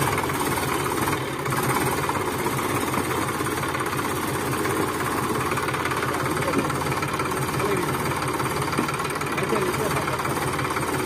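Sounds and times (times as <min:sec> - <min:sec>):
tractor diesel engine knocking: 0:00.0 - 0:11.0.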